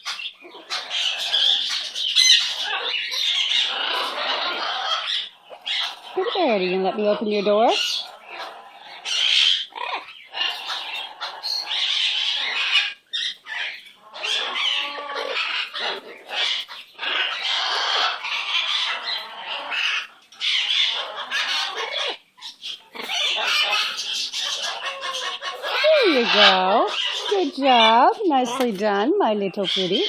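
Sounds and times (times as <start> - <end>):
parrot squawking: 0.0 - 30.0.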